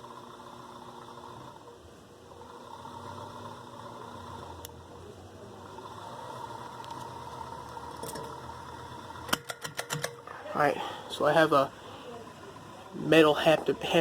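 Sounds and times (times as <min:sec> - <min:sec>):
faint steady whine: 0:00.0 - 0:14.0
fan motor humming: 0:00.0 - 0:14.0.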